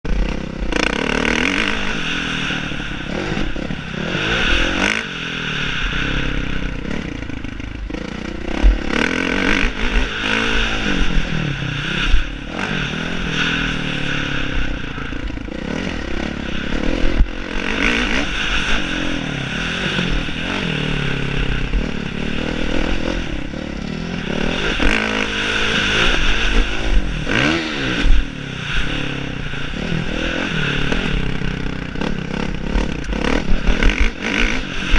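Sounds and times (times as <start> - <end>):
low rumble: 0.1 - 34.9
motocross bike engine revving: 0.1 - 34.9.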